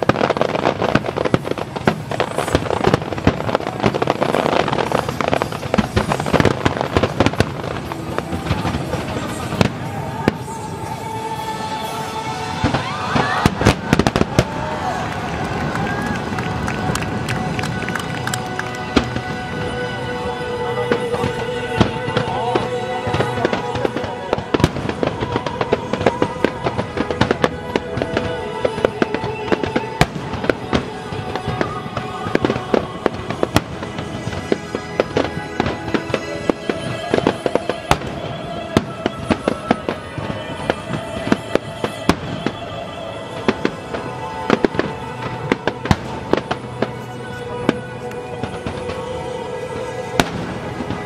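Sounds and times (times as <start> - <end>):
music with held tones: 0.0 - 51.0.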